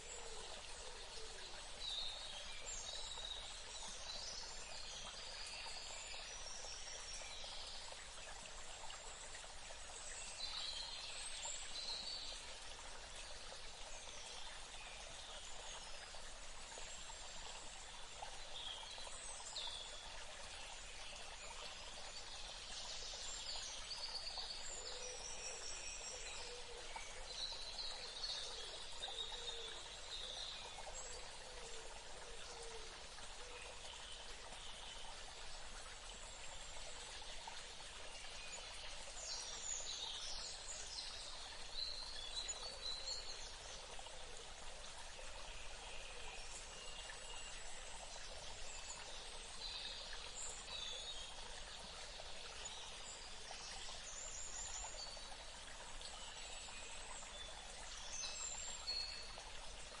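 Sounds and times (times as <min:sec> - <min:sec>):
running water stream: 0:00.0 - 1:00.0.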